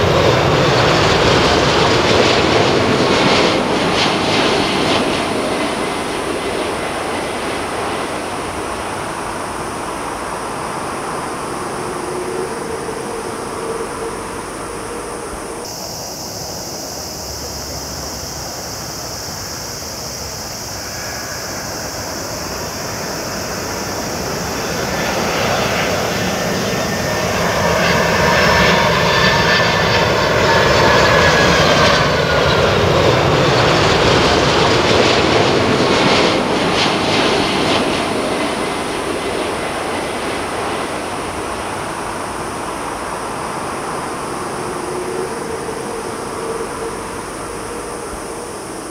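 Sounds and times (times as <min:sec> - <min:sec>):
jet engine whine falling in pitch: 0:00.0 - 0:48.9
jet engines on approach: 0:00.0 - 0:48.9.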